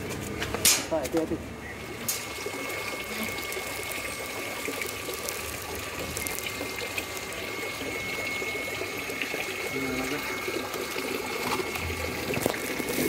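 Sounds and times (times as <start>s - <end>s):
water splashing into pond: 0.0s - 13.0s
faint high whine: 1.7s - 13.0s.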